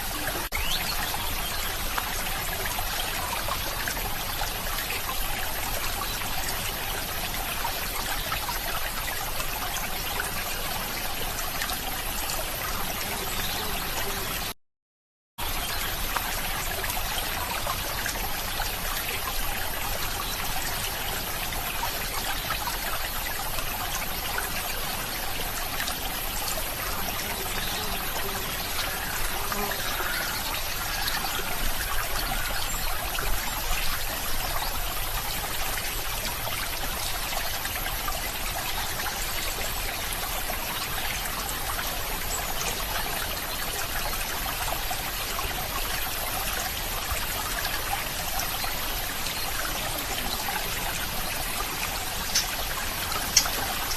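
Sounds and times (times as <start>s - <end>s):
stream water trickling: 0.0s - 14.6s, 15.4s - 53.9s.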